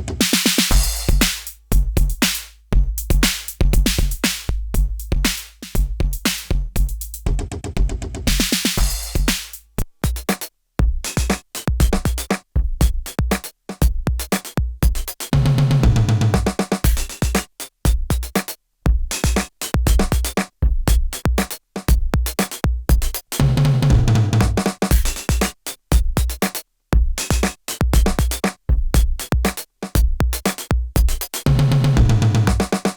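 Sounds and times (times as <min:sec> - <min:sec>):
drum machine beat: 0:00.0 - 0:32.9.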